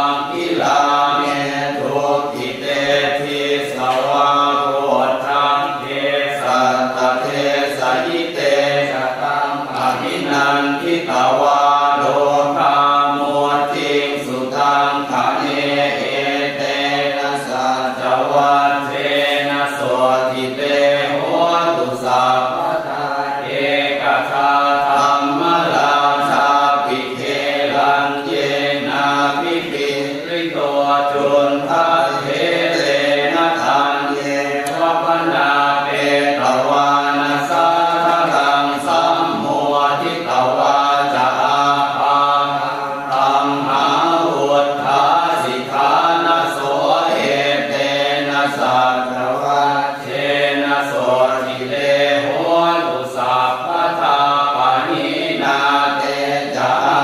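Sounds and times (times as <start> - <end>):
voices chanting: 0.0 - 57.0.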